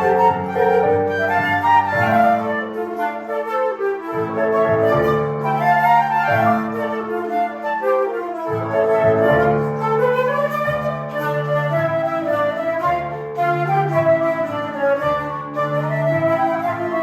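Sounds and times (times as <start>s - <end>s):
flute duet: 0.0s - 17.0s.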